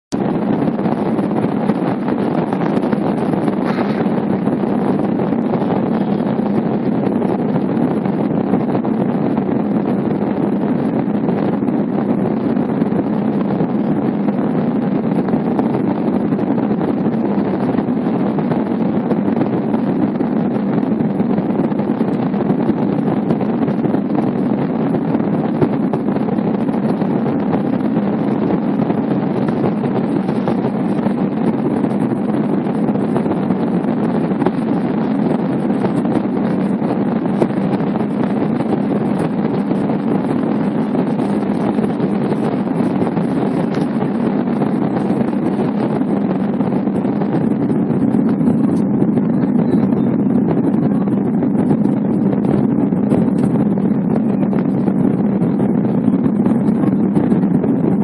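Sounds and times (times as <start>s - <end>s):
airliner cabin engine drone: 0.1s - 58.0s.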